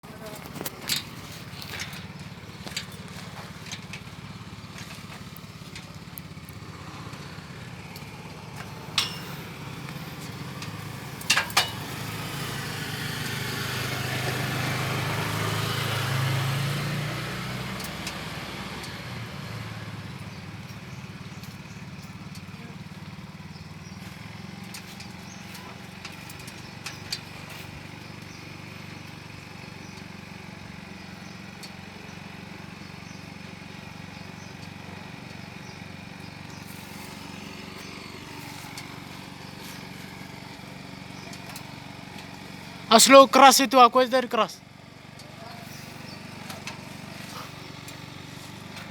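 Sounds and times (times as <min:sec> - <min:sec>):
low engine-like hum: 0:00.0 - 0:48.9
vehicle passing by: 0:00.0 - 0:48.9.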